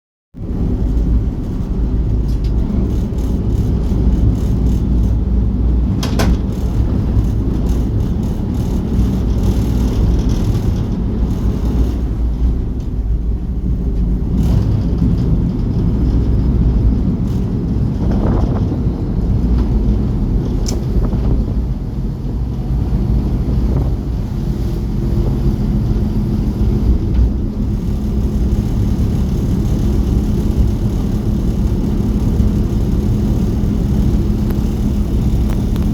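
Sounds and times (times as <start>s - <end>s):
ferry engine droning: 0.4s - 35.9s.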